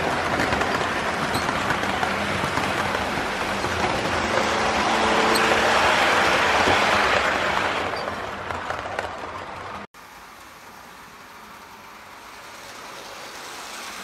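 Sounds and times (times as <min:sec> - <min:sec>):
model train rumbling past: 0:00.0 - 0:14.0.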